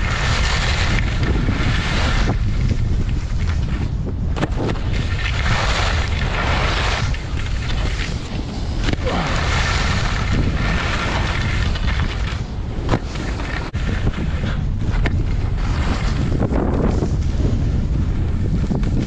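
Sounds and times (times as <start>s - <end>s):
skis scraping over snow: 0.0s - 19.0s
wind buffeting microphone: 0.0s - 19.0s.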